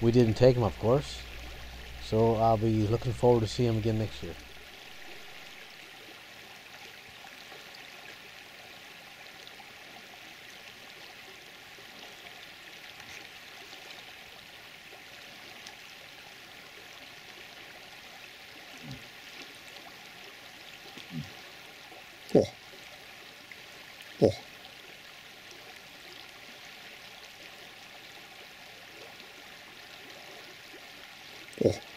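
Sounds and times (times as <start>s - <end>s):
flowing water rushing: 0.0s - 31.9s.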